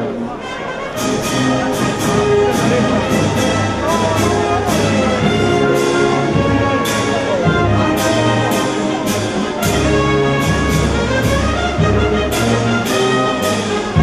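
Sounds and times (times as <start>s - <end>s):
brass band music: 0.0s - 14.0s.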